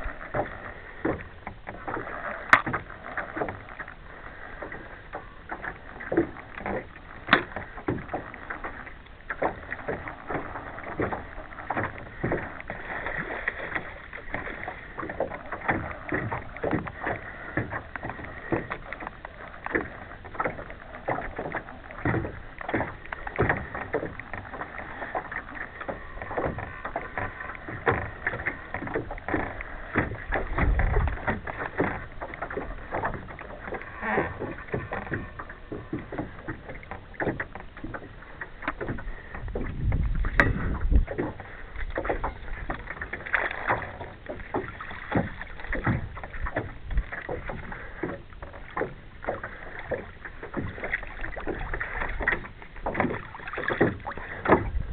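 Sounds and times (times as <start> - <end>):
waves slapping boat hull: 0.0 - 54.9.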